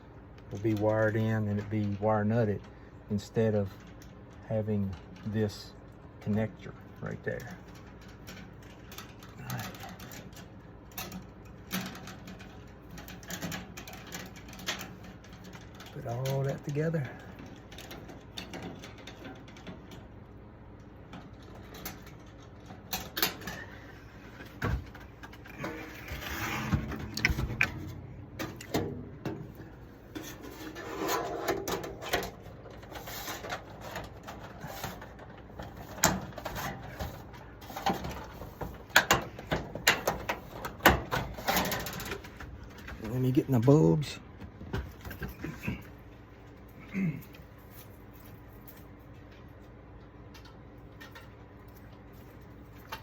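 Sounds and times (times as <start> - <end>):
scraping and rustling of wiring: 0.3 - 53.0.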